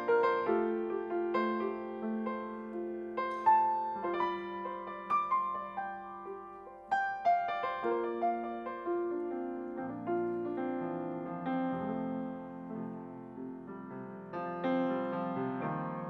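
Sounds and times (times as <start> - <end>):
solo jazz piano: 0.0 - 16.0.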